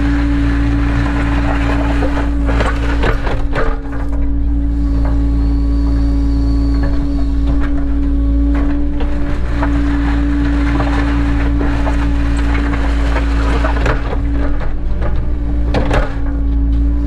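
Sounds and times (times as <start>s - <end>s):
scraping and knocking: 0.0s - 5.5s, 6.8s - 16.6s
excavator diesel engine running: 0.0s - 17.0s.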